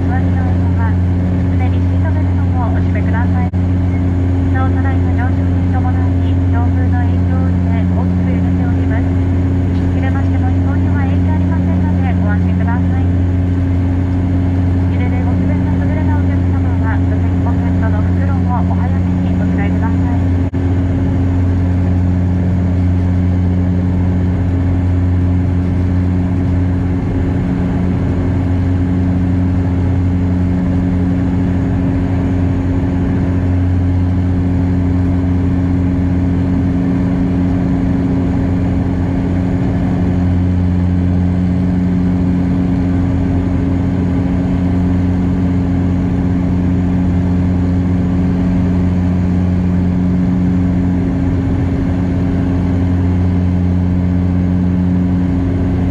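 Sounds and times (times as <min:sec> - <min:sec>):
turboprop cabin drone: 0:00.0 - 0:55.9.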